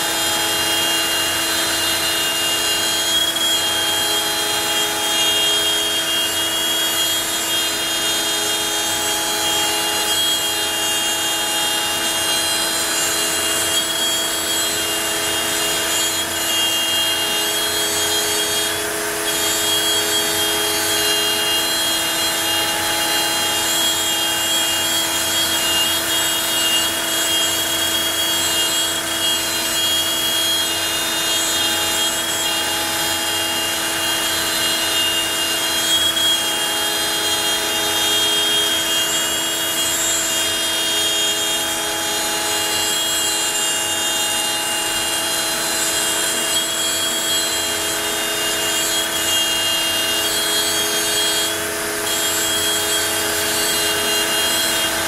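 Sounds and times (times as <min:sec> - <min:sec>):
router spindle whine: 0:00.0 - 0:55.0.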